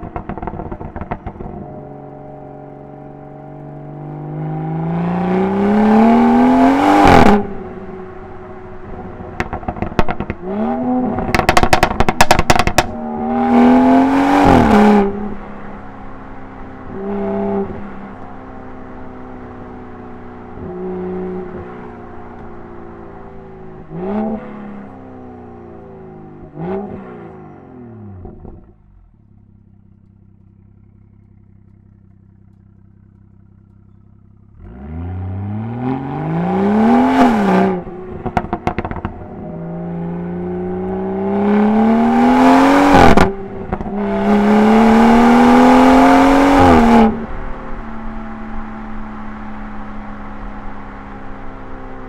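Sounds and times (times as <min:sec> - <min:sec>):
car engine idling: 0:00.0 - 0:35.6, 0:37.6 - 0:52.0
car engine revving and accelerating: 0:00.0 - 0:52.0
exhaust crackles: 0:00.0 - 0:52.0.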